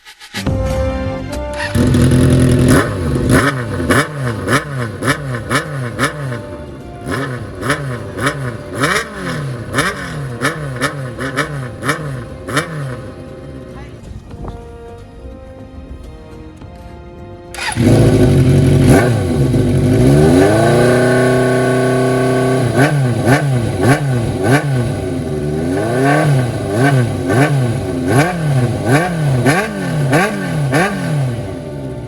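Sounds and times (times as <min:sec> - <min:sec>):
motorcycle engine revving: 0:01.6 - 0:14.0, 0:17.6 - 0:32.0.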